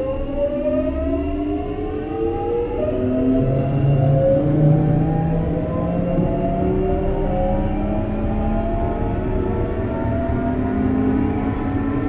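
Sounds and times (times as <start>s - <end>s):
low rumble of train: 0.0s - 12.0s.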